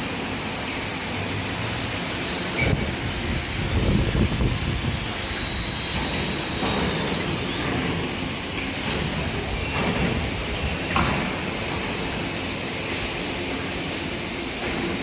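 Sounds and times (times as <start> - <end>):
hiss: 1.7 - 15.0.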